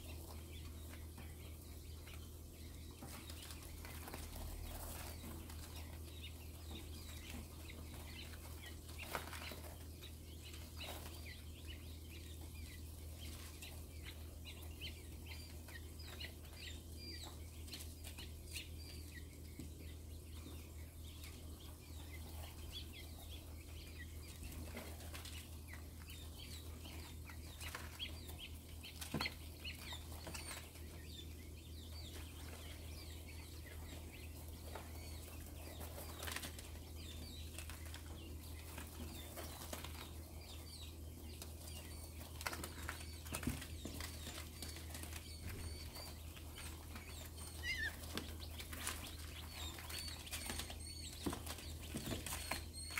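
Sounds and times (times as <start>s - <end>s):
quail scratching in bedding: 2.9s - 19.5s, 21.3s - 52.9s.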